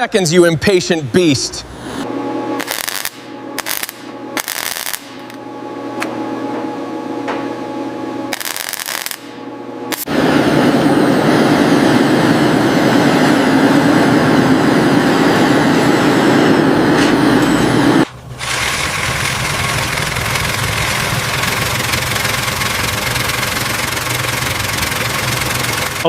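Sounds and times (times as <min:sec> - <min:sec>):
steady mechanical running noise: 0:00.0 - 0:26.0.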